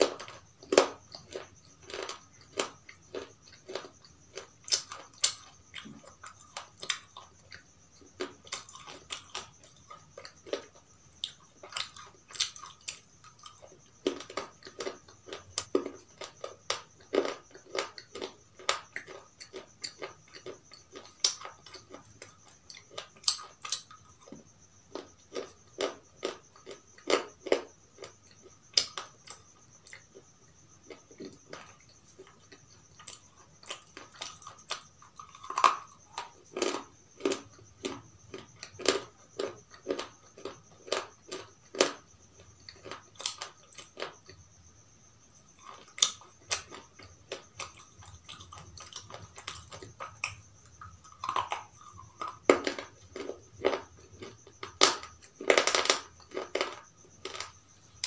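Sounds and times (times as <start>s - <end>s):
crunching and chewing: 0.0s - 58.0s.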